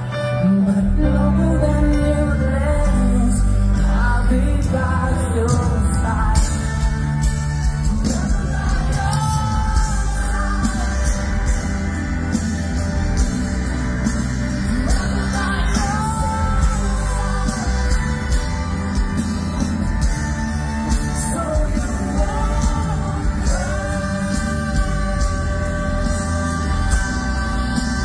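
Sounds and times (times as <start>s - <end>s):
person singing: 0.0s - 12.4s, 13.7s - 28.0s
live rock band playing: 0.0s - 28.0s.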